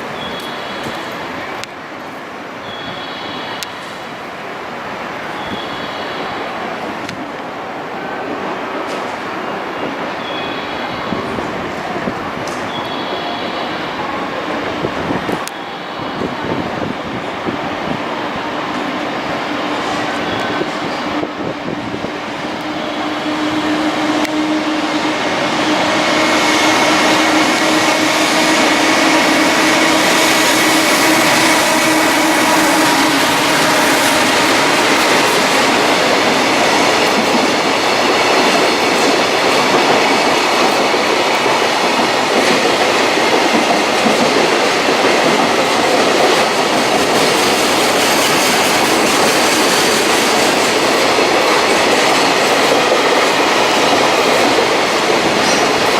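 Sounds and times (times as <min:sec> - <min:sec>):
freight train running past: 0:00.0 - 0:55.9.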